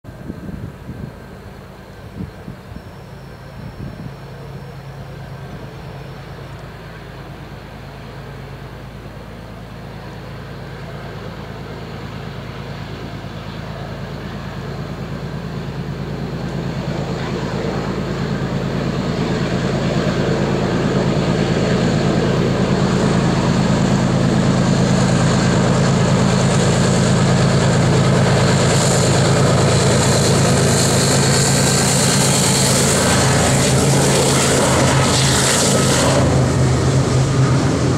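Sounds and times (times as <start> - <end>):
freight locomotive engines droning: 0.0 - 37.9.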